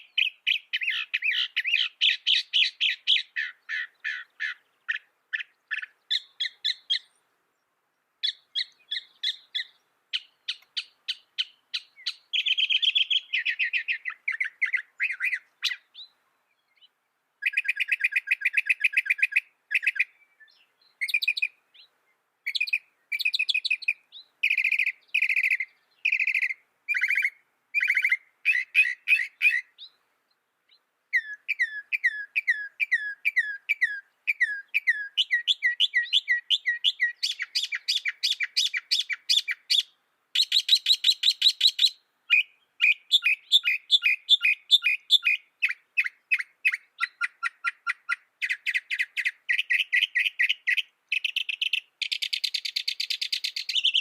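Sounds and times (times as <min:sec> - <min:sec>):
mockingbird singing: 0:00.0 - 0:07.2, 0:08.2 - 0:54.0.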